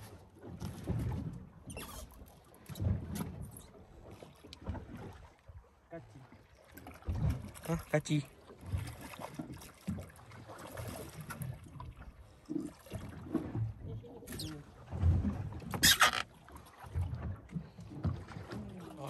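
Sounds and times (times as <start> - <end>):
water lapping against boat hull: 0.0 - 19.0.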